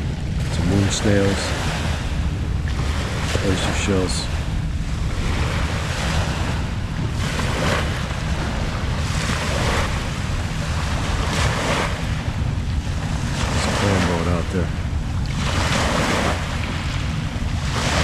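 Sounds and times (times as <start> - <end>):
sea waves washing ashore: 0.0 - 18.0
wind on microphone: 0.0 - 18.0.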